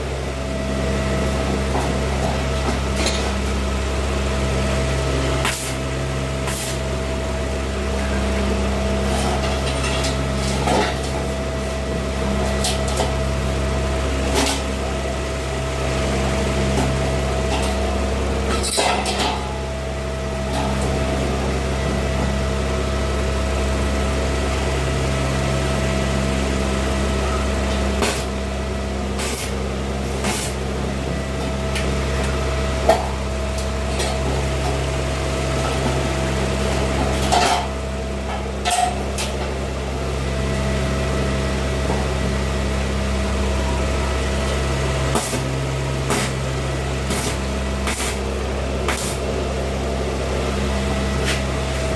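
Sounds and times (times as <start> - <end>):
welding equipment humming: 0.0 - 51.9.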